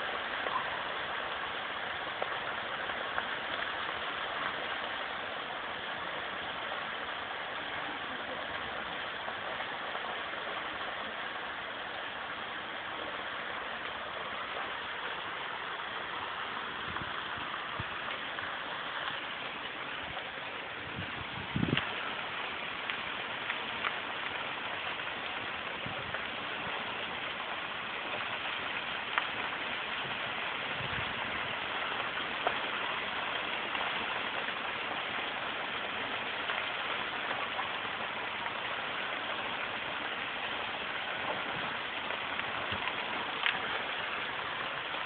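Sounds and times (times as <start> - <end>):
fire burning hiss: 0.0 - 45.0
fire popping: 0.0 - 45.0.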